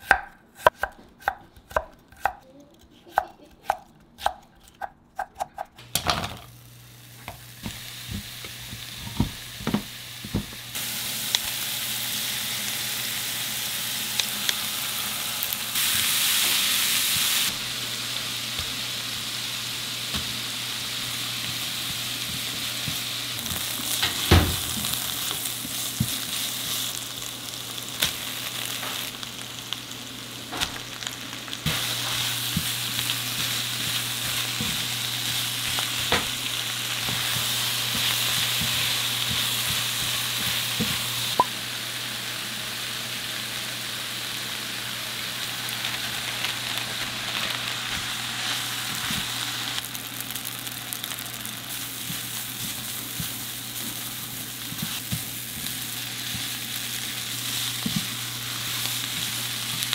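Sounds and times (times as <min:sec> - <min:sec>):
food sizzling in a pan: 0:05.9 - 0:59.9.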